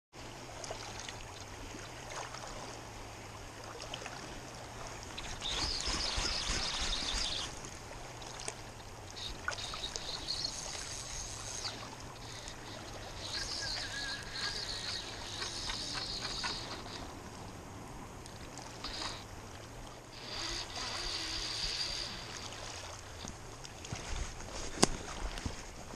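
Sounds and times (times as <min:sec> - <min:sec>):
river water flowing over stones: 0:00.4 - 0:25.9.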